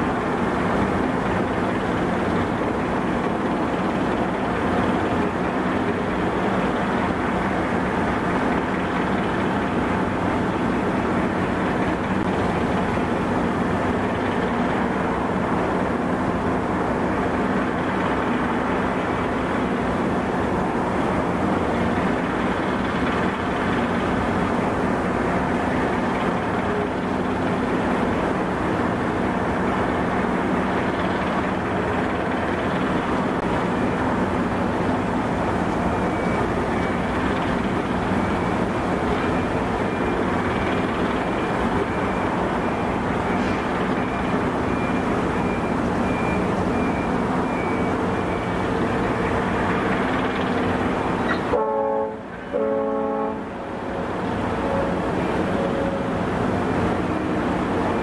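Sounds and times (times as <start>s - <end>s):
gas turbine machinery rumble: 0.0s - 58.0s.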